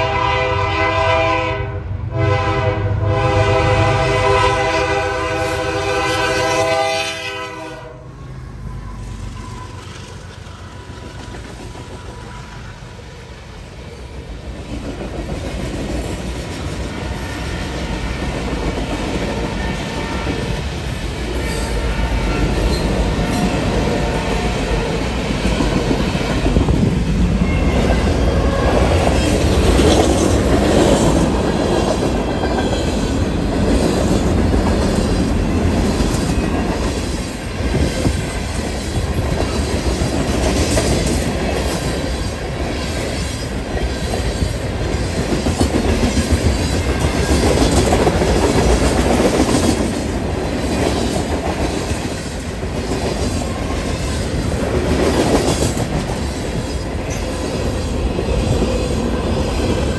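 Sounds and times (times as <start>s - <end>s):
train wheels rumbling on rails: 2.0s - 59.9s.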